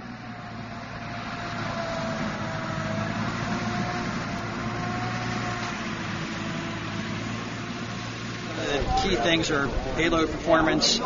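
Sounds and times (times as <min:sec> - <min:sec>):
truck engine and drivetrain whine: 0:00.0 - 0:11.0.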